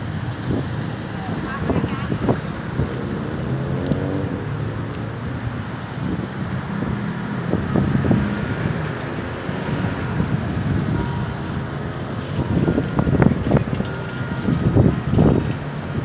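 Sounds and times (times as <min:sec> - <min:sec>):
vehicle engines: 0:00.0 - 0:16.0
wind on microphone: 0:00.0 - 0:16.0.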